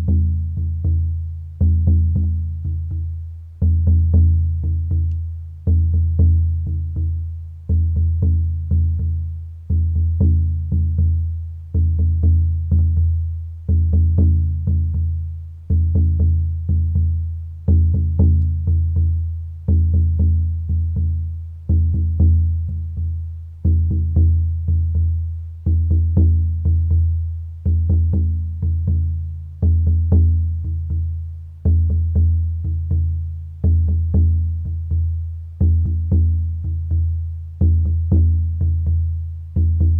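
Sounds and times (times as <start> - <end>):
deep drum beating: 0.0 - 39.9.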